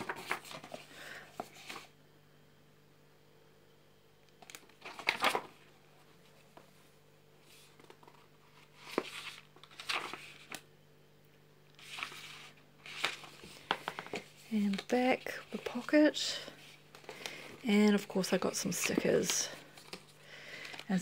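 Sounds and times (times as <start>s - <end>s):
pages flipping and rustling: 0.0s - 1.9s, 4.3s - 6.7s, 7.4s - 10.7s, 11.7s - 21.0s
faint freezer hum: 0.0s - 21.0s.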